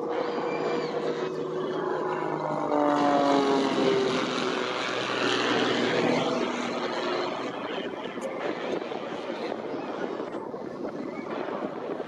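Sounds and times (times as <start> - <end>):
biplane propeller engine: 0.0 - 12.0
steady rushing noise: 0.0 - 12.0.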